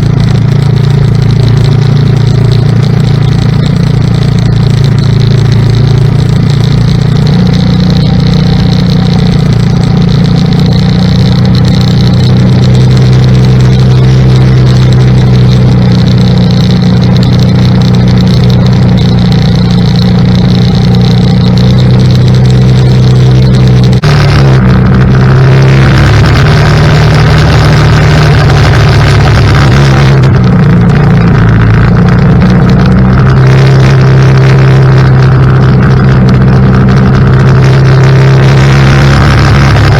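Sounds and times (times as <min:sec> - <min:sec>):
atv engine running under load: 0:00.0 - 0:39.9
rushing noise: 0:00.0 - 0:39.9.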